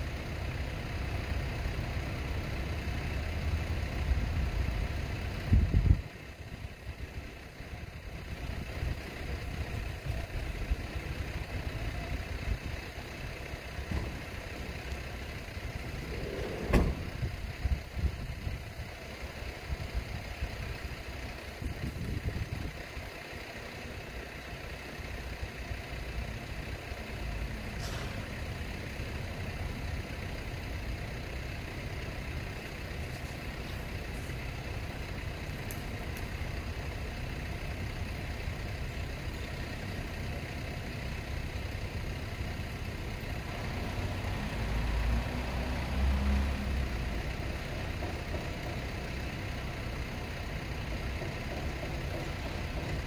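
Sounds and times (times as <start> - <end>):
street traffic rumble: 0.0 - 53.0.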